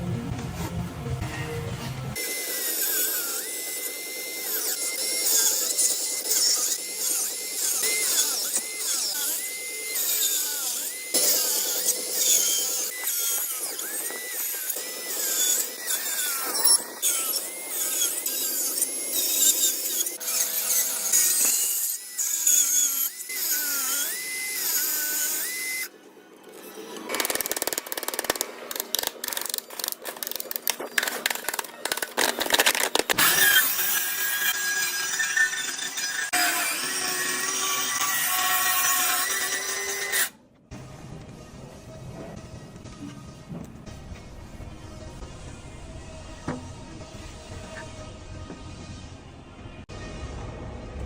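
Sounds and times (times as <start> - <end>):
power tool cutting wood: 0.3 - 43.0, 44.6 - 49.9.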